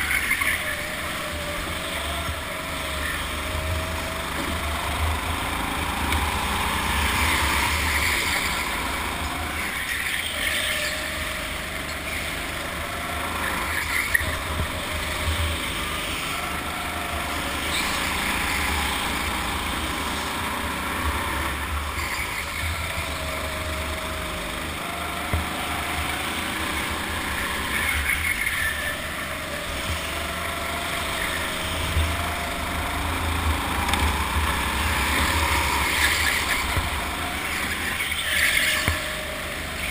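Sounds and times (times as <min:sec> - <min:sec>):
go-kart motor revving: 0:00.0 - 0:39.9.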